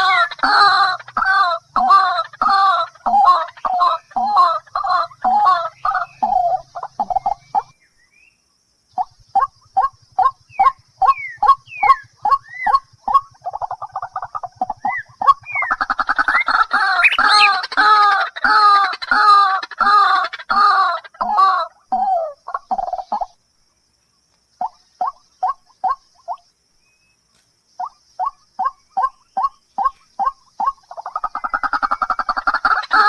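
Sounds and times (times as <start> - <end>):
birds calling: 0.0 - 33.0.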